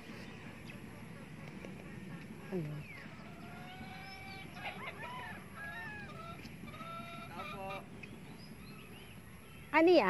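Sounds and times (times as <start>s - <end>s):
distant birds whistling calls: 0.0s - 10.0s
faint outdoor background: 0.0s - 10.0s.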